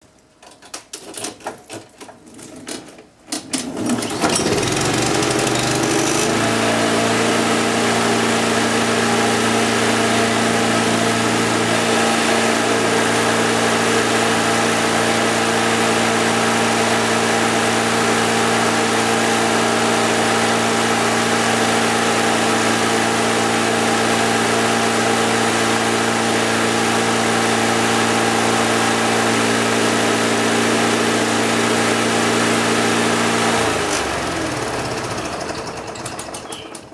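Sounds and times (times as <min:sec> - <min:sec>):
lawn mower engine cranking: 0:00.4 - 0:36.9
lawn mower engine running: 0:03.3 - 0:36.9.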